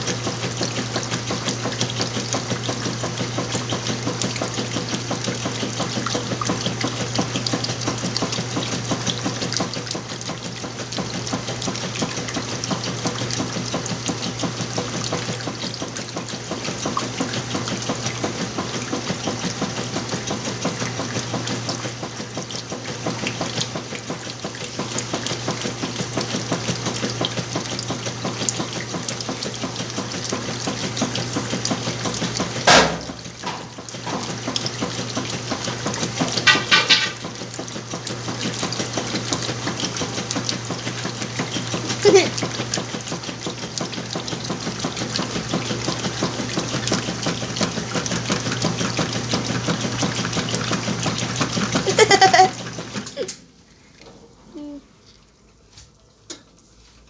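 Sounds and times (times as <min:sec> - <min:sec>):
washing machine motor hum: 0:00.0 - 0:57.0
water churning in washing machine: 0:00.0 - 0:57.0.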